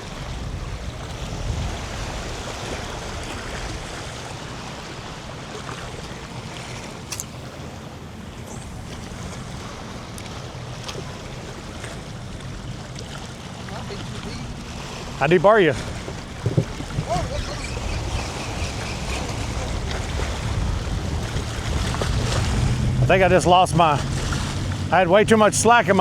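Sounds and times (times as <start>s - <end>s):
small waves washing ashore: 0.0s - 26.0s
wind buffeting microphone: 0.0s - 26.0s.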